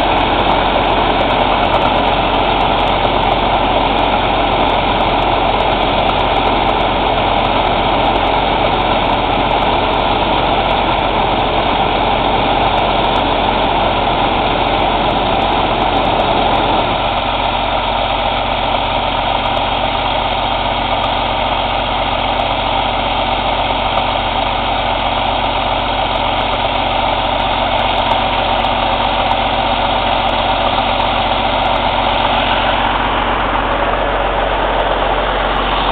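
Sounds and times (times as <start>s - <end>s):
diesel engine idling: 0.0s - 35.9s.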